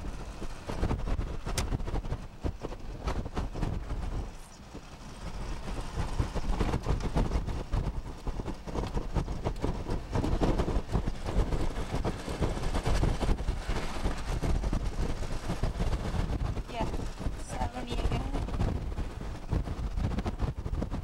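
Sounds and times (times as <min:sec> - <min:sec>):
wind gusting: 0:00.0 - 0:21.0.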